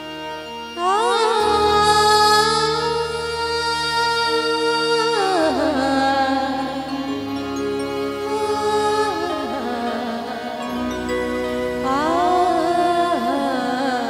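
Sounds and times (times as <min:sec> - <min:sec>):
harmonium drone: 0:00.0 - 0:14.0.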